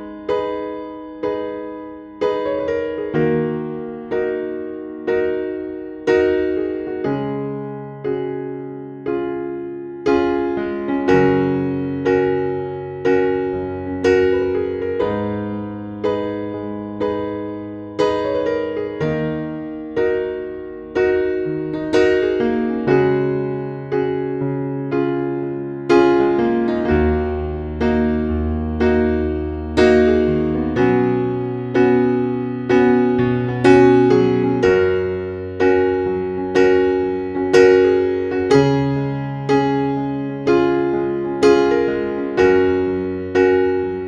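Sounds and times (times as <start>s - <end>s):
gentle piano piece: 0.0s - 44.0s.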